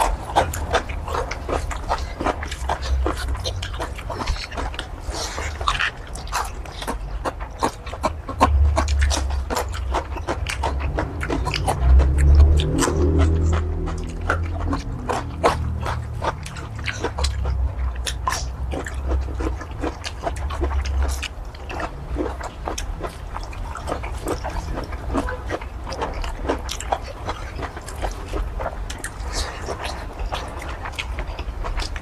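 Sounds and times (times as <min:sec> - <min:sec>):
low steady hum: 0:00.0 - 0:32.0
wet chewing clicks and smacks: 0:00.0 - 0:32.0.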